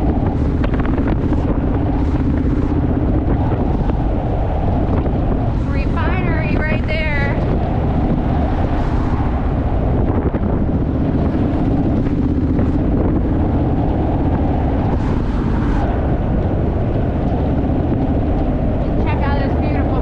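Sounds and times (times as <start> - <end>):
motorcycle engine drone: 0.0 - 20.0
wind rush on microphone: 0.0 - 20.0.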